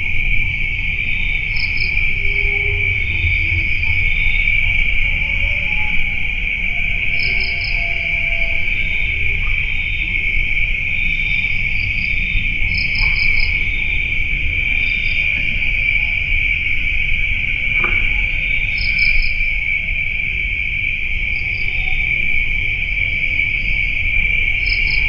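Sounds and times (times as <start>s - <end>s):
crickets chirping: 0.0s - 25.0s
insects high-pitched drone: 0.0s - 25.0s.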